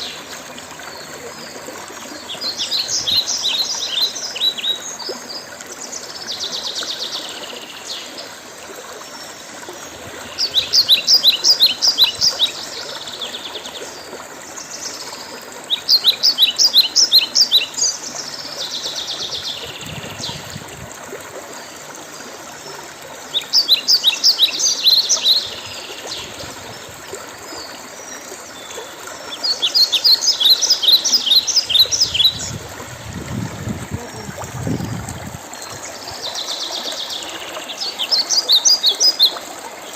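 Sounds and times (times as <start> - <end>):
songbird singing: 0.0 - 8.3, 9.1 - 20.7, 22.7 - 39.9.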